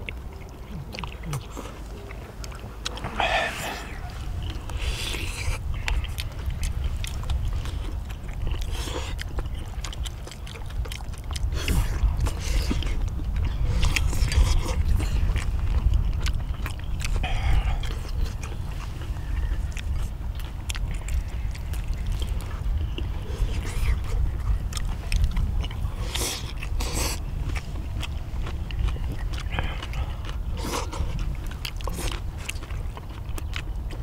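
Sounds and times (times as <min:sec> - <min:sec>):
people chewing and eating: 0:00.0 - 0:34.0
steady low rumble: 0:00.0 - 0:34.0.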